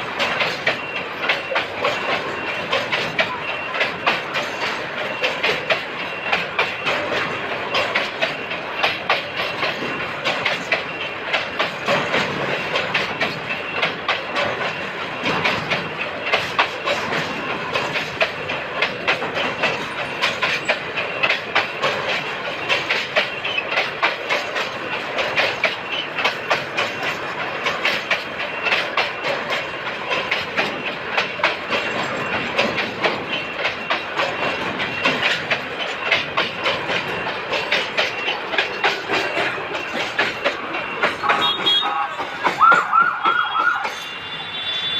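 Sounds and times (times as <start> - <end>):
train wheels clacking over rail joints: 0.0 - 44.9.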